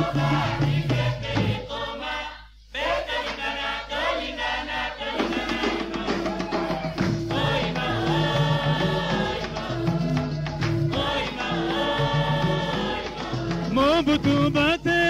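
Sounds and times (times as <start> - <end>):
group singing: 0.0 - 15.0.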